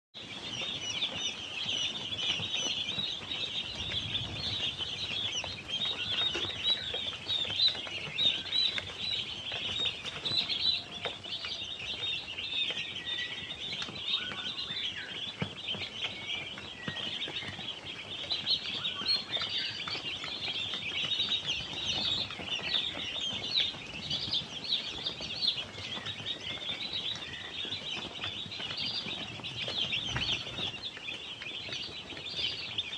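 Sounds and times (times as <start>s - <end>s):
chicks peeping: 0.2s - 32.9s.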